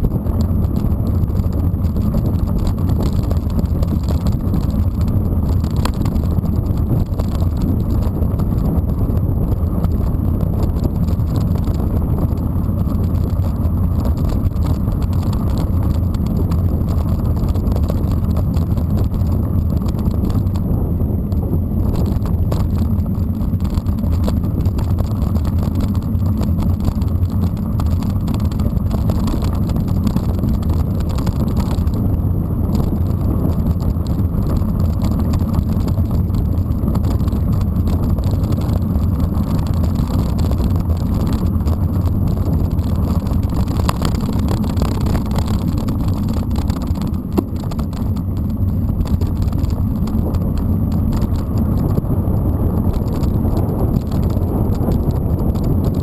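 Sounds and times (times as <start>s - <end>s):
bike tyres rolling over gravel: 0.0s - 56.0s
wind on microphone: 0.0s - 56.0s.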